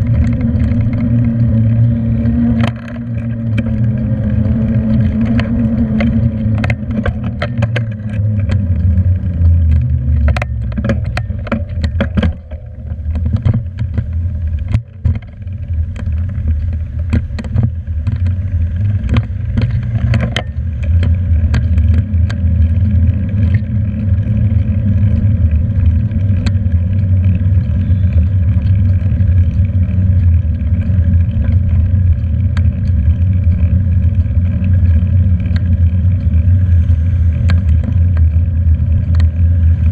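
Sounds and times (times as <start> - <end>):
bicycle clicks and rattles: 0.0 - 39.9.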